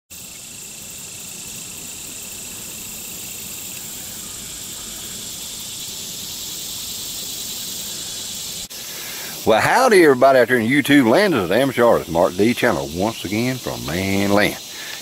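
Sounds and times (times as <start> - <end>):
insects buzzing: 0.1 - 15.0.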